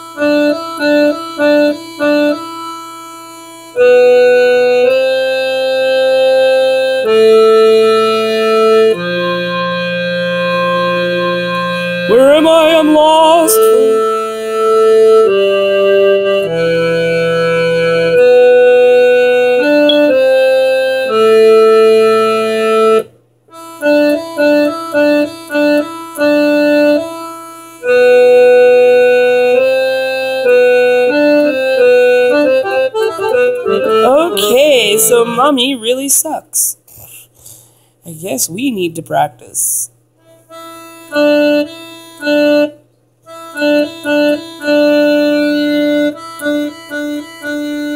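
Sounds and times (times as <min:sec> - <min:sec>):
electronic organ played haltingly: 0:00.0 - 0:35.7, 0:40.2 - 0:47.9.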